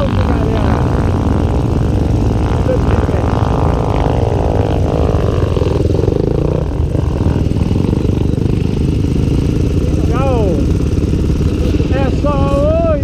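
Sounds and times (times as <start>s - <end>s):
motorcycle engine running hard: 0.0s - 13.0s.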